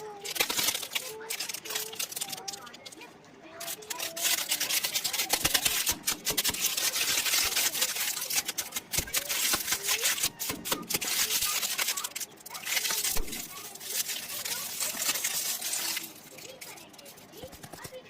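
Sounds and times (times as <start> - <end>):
plastic wrappers crinkling: 0.0 - 18.0.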